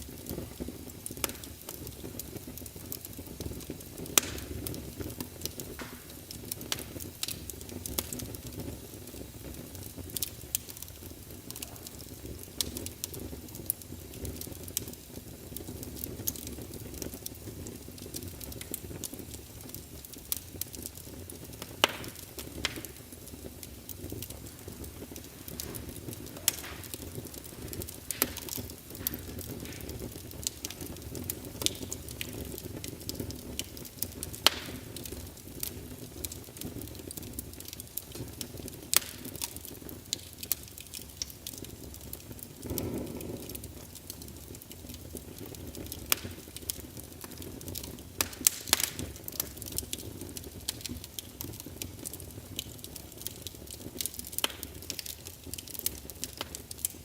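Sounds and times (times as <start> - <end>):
rush of flames: 0.0 - 57.0
wood fire crackling: 0.0 - 57.0.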